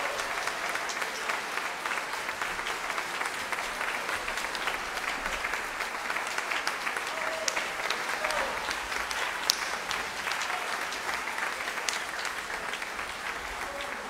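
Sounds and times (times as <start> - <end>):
dense hand clapping: 0.0 - 14.0.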